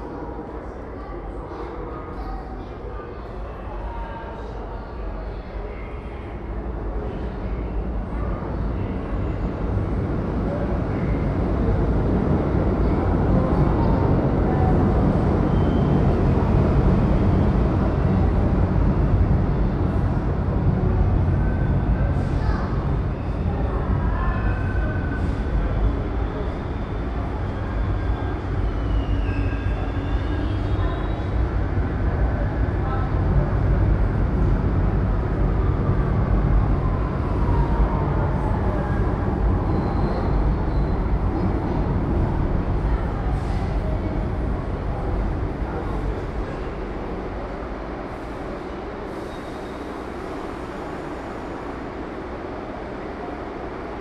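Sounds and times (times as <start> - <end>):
subway train rumbling: 0.0 - 54.0.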